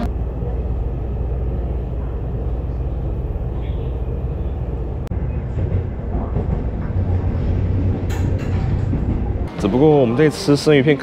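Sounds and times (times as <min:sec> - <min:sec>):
moving train rumble: 0:00.0 - 0:10.5.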